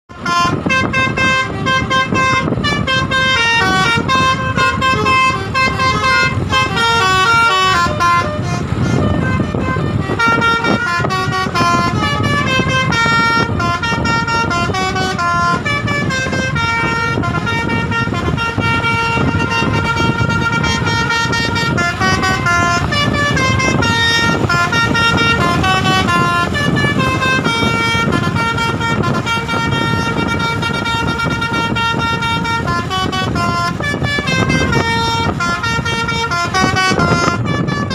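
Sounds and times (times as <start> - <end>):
bus engines rumbling: 0.1 - 37.9
musical air horns: 0.1 - 37.9.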